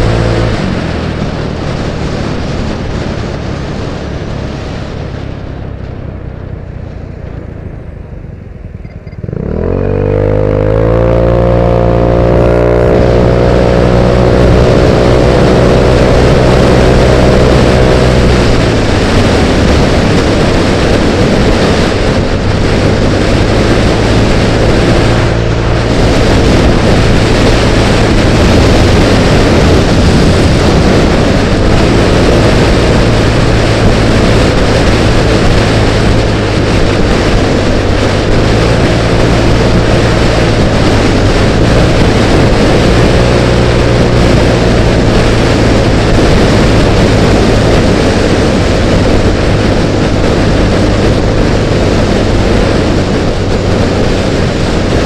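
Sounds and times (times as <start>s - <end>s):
scooter engine drone: 0.0s - 55.0s
wind rushing over microphone: 0.0s - 55.0s.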